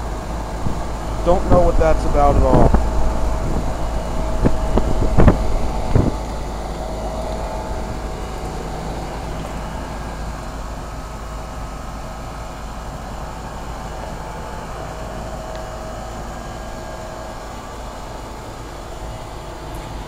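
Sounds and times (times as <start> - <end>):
heat pump unit humming: 0.0 - 20.0.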